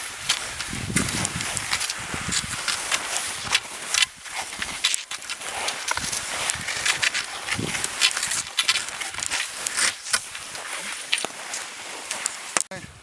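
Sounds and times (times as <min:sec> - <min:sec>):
footsteps crunching on snow: 0:00.0 - 0:12.7.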